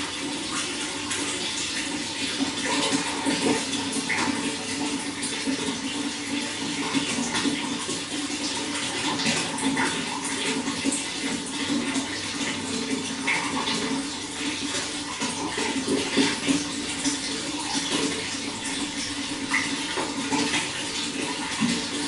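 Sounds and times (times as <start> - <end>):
running water splashing: 0.0 - 22.0.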